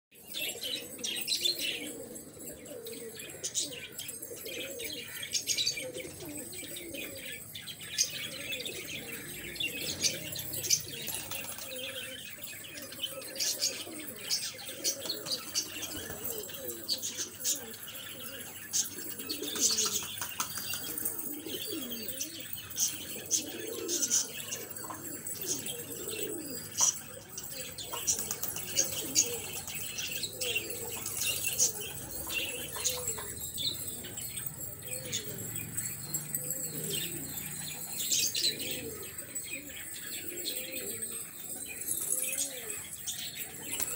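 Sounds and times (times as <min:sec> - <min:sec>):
pigeons cooing: 0:00.2 - 0:43.9.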